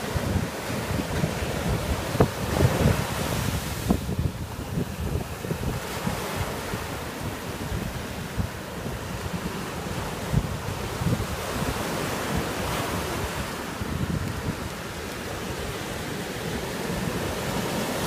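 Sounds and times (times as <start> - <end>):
waves washing up sand: 0.0 - 18.0
wind gusting on microphone: 0.0 - 18.0.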